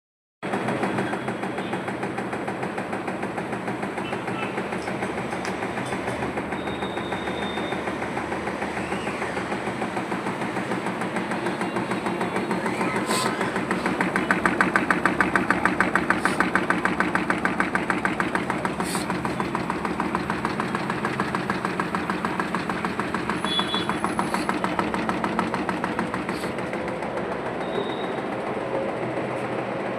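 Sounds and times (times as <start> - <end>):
drum knocking rhythmically: 0.5 - 28.7
washing machine drum spinning: 0.5 - 29.9.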